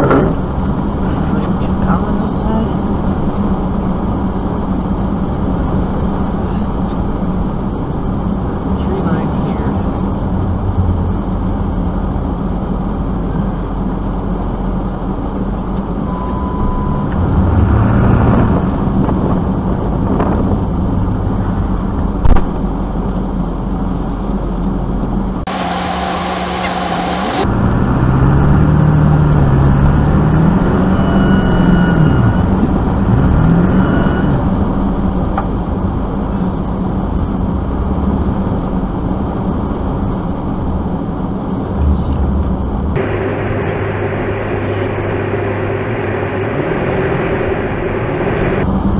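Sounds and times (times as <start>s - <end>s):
vehicle engine revving: 0.0s - 22.3s, 25.4s - 36.2s, 41.6s - 48.9s.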